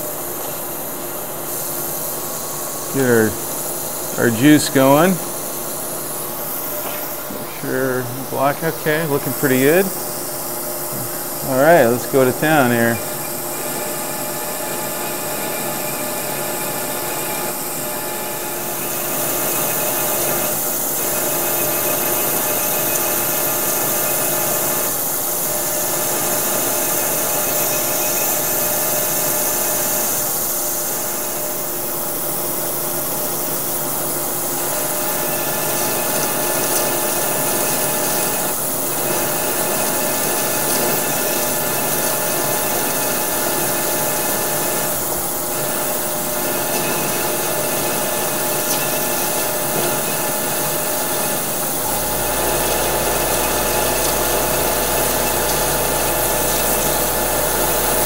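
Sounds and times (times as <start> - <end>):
lathe cutting metal hum: 0.0 - 58.0.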